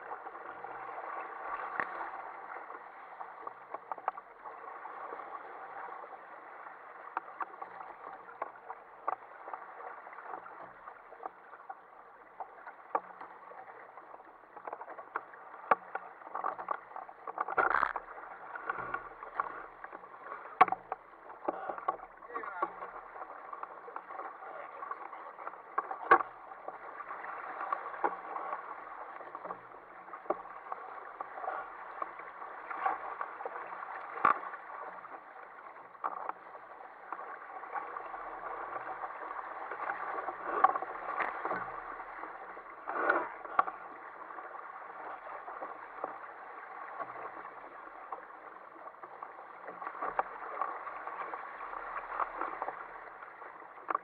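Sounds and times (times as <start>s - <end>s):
water rushing along kayak hull: 0.0s - 54.0s
waves slapping against hull: 0.0s - 54.0s.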